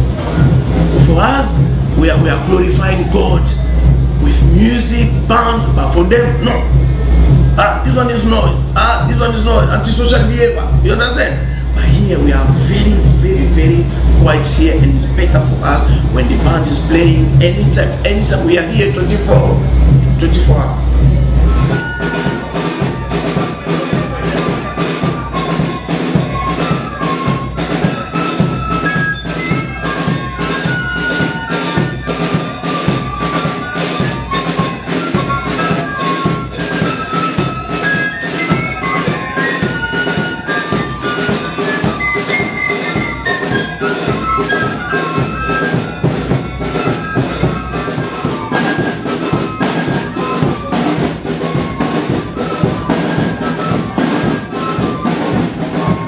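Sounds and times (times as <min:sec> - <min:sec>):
brass band playing a melody: 0:00.0 - 0:56.0
steady drum beat: 0:00.0 - 0:56.0.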